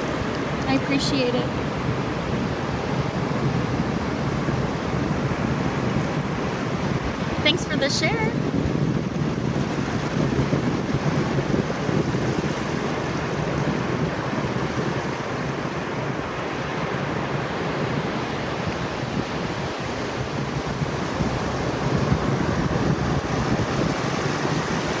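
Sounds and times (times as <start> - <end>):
ocean surf washing on beach: 0.0 - 25.0
wind buffeting microphone: 0.0 - 25.0.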